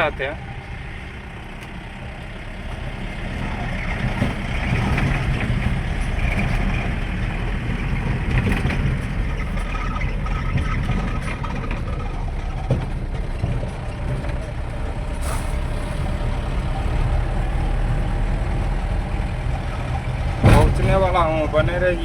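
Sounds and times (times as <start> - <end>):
road noise: 0.0 - 22.0
vehicle engine while driving: 0.0 - 22.0.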